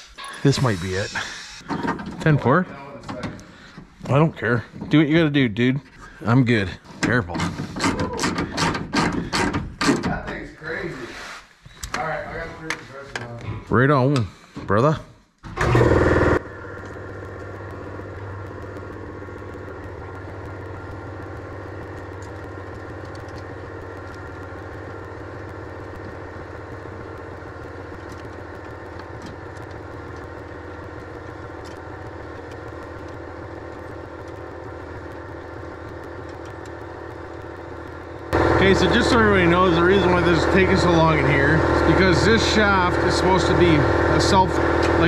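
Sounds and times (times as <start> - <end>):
air compressor humming: 0.0 - 14.6, 15.4 - 45.0.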